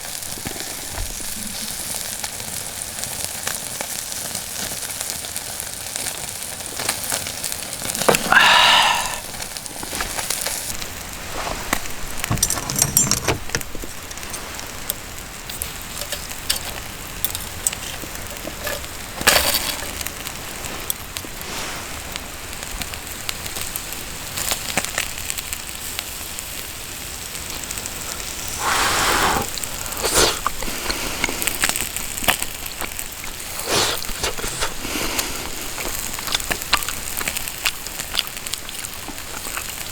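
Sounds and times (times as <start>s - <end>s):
campfire crackling and popping: 0.0s - 12.4s, 13.4s - 39.9s.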